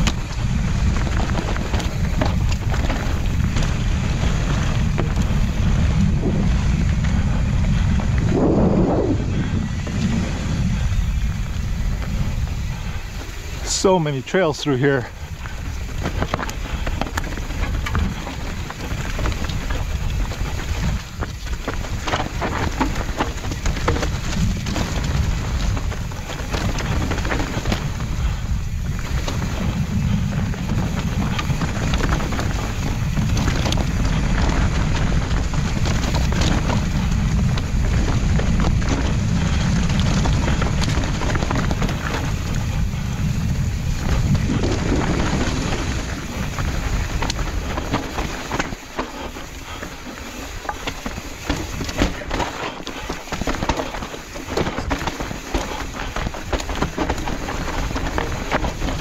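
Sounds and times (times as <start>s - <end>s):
bike knocks and rattles: 0.0s - 13.6s, 15.2s - 59.0s
bike tyre noise on dirt: 0.0s - 59.0s
wind buffeting microphone: 0.0s - 59.0s.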